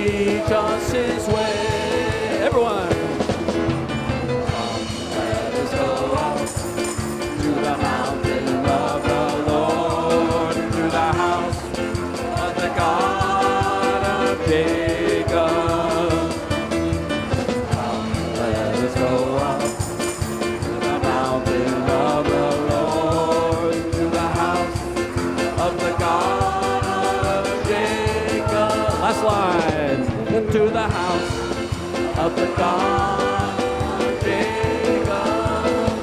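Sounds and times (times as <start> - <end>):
steady drum beat: 0.0 - 36.0
upbeat band song: 0.0 - 36.0
voices singing: 0.0 - 36.0.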